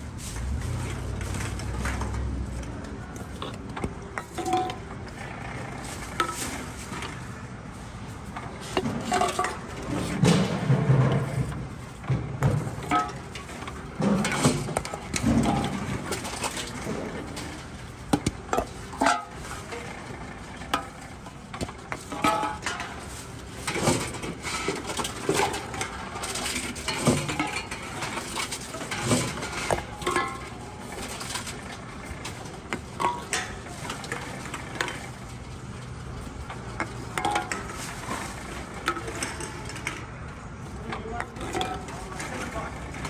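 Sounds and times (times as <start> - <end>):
drink cans clinking: 0.4 - 43.0.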